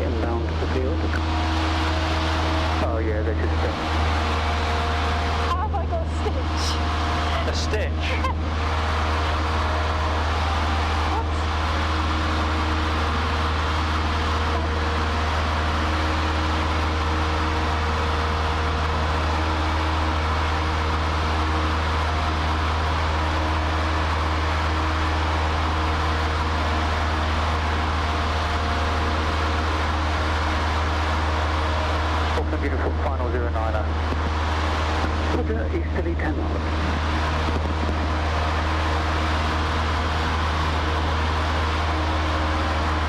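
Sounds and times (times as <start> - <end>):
airplane engine and propeller droning: 0.0 - 43.0.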